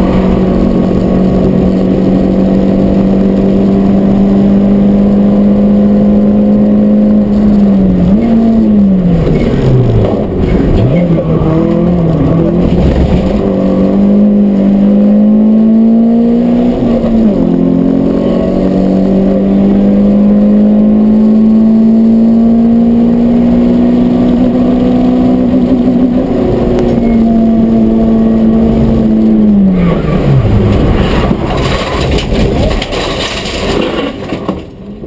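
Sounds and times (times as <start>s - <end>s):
car engine at high revs: 0.0s - 34.6s.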